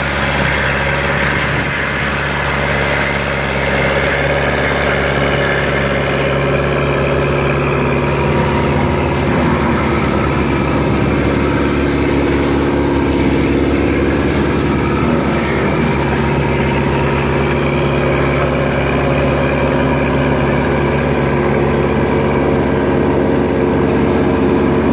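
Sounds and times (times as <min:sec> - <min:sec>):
diesel engine droning: 0:00.0 - 0:24.9.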